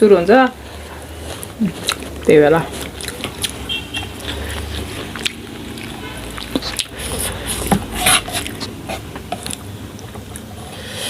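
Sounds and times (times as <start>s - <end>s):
chewing and slurping noodles: 0.6s - 11.0s.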